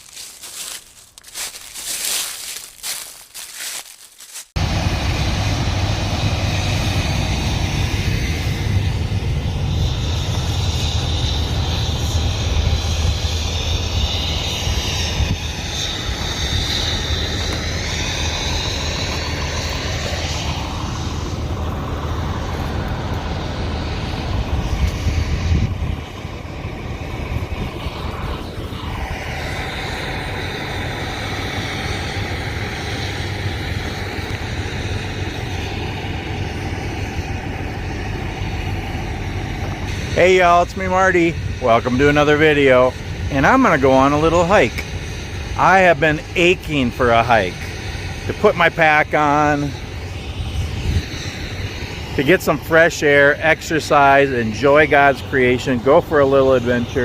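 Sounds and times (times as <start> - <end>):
low engine drone: 0.0 - 57.0.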